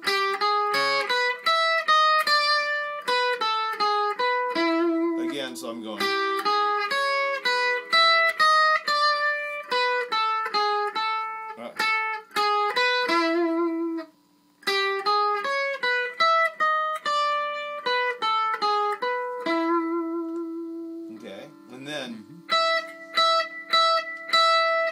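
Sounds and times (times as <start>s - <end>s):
electric guitar lead melody: 0.0s - 24.9s.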